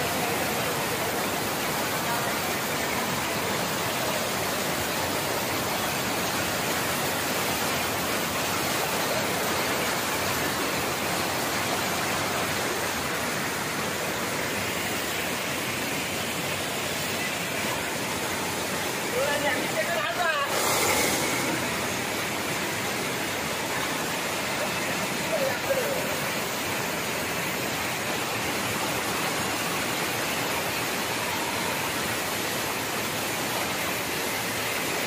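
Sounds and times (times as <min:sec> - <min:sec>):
water rushing over weir: 0:00.0 - 0:35.0.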